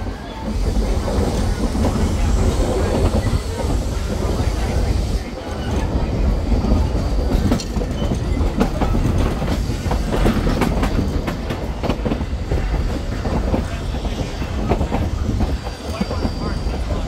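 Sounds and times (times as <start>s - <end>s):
train cars rumbling on track: 0.0s - 17.0s.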